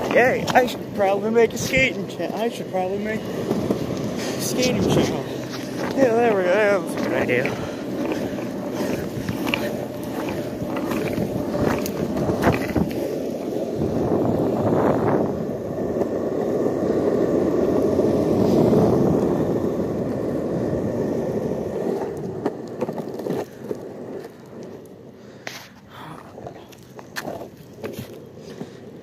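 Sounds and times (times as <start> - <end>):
skateboard wheels rolling on pavement: 0.0 - 29.0.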